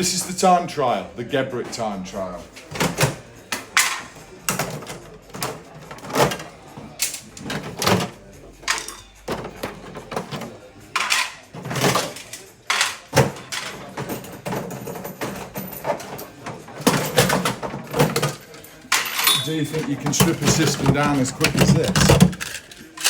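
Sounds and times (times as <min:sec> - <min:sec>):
plastic parts clicking and clattering: 0:01.6 - 0:23.0.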